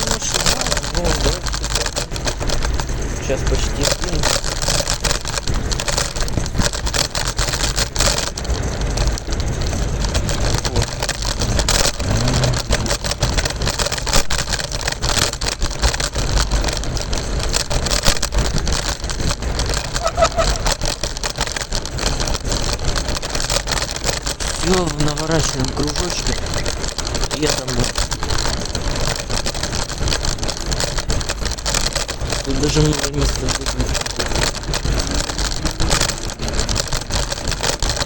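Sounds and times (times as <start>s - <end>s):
scooter deck clicking and rattling: 0.0s - 38.0s
scooter wheels rumbling on pavement: 0.0s - 38.0s.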